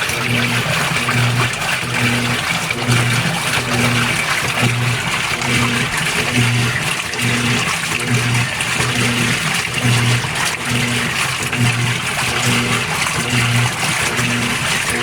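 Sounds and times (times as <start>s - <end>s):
washer motor humming: 0.0s - 15.0s
water sloshing: 0.0s - 15.0s.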